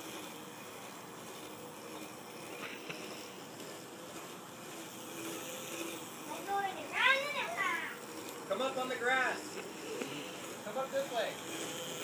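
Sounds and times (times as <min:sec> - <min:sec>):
electric motorcycle whine: 0:00.0 - 0:12.0.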